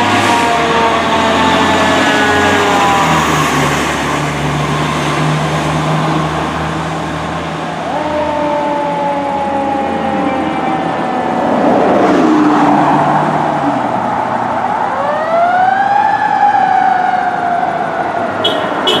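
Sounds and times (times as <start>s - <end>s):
fire engine sirens wailing: 0.0s - 19.0s
traffic noise: 0.0s - 19.0s.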